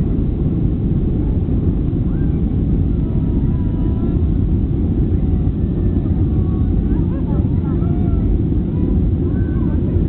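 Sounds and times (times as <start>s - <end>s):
jet engines low rumble: 0.0s - 10.0s.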